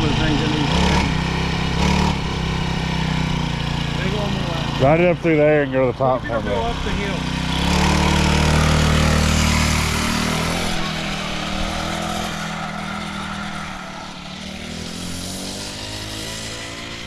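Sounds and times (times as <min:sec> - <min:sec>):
mini bike engine revving: 0:00.0 - 0:17.0.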